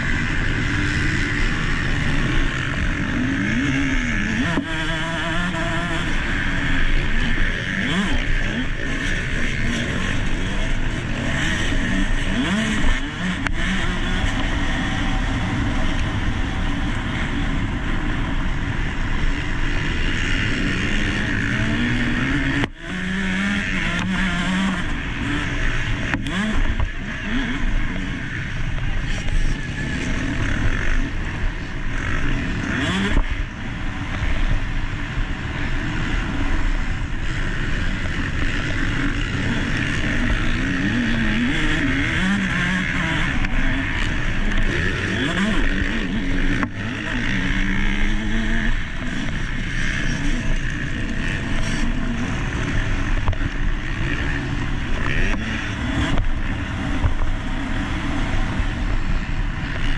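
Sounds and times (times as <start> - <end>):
dense rushing noise: 0.0 - 22.8, 23.5 - 59.9
dirt bike engine revving: 0.0 - 59.9.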